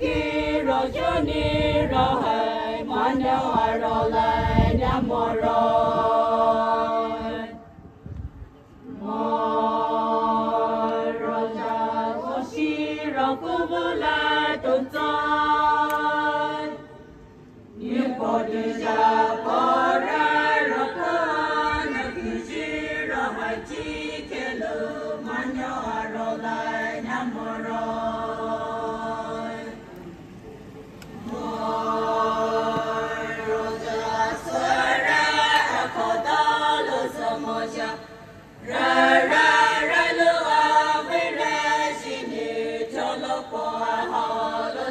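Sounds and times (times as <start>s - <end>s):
group of voices singing: 0.0s - 7.8s, 8.8s - 44.9s.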